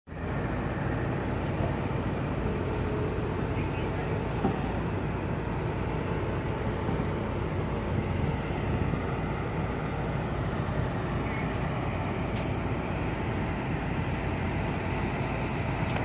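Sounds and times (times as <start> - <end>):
heavy diesel machinery rumbling: 0.1 - 16.0.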